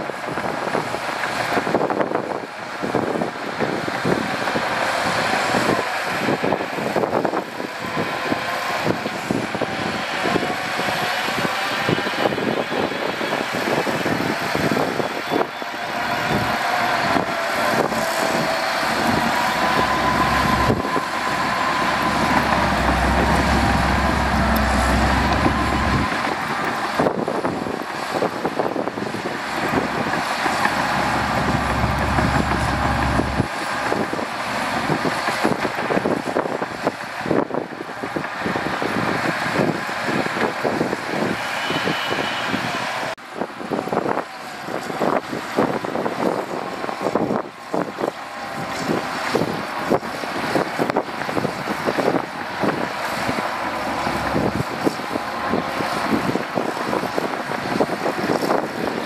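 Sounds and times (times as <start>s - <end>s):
diesel engine under load: 0.0s - 59.0s
steel tracks clattering: 3.7s - 43.2s, 43.8s - 59.0s.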